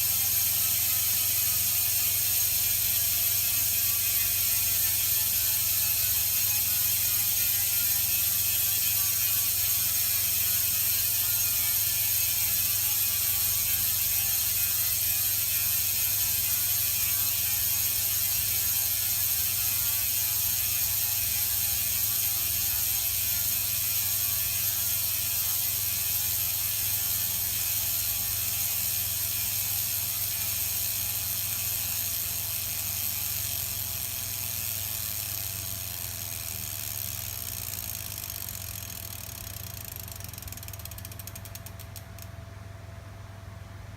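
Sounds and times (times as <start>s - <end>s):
bicycle hub freewheeling buzz: 0.0s - 42.3s.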